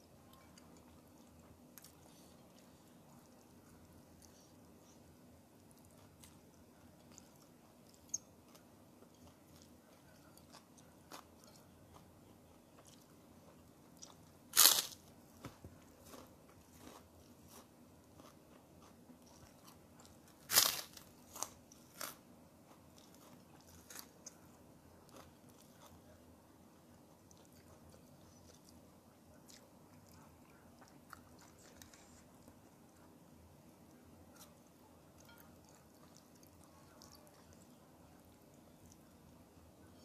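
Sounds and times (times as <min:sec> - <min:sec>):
person chewing: 0:05.6 - 0:26.3, 0:26.9 - 0:33.1, 0:34.3 - 0:40.0.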